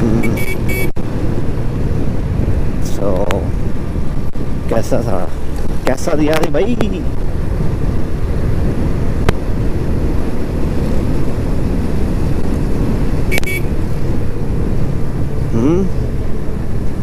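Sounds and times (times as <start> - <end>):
motorcycle running: 0.0 - 17.0
wind buffeting: 0.0 - 17.0.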